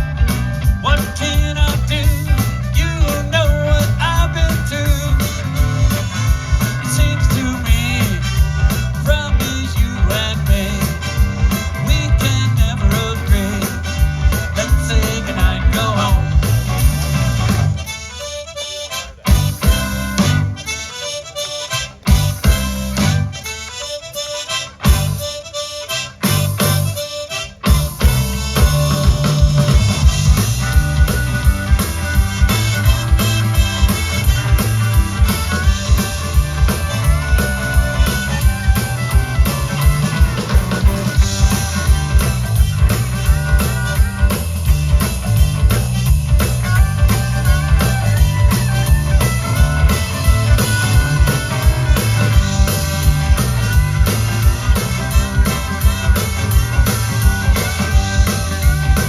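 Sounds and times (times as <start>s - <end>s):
rock music: 0.0s - 59.0s.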